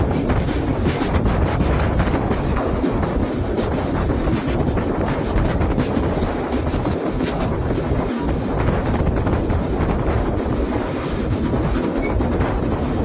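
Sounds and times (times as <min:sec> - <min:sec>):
rattles and wheel clicks: 0:00.0 - 0:13.0
train coach rumbling: 0:00.0 - 0:13.0.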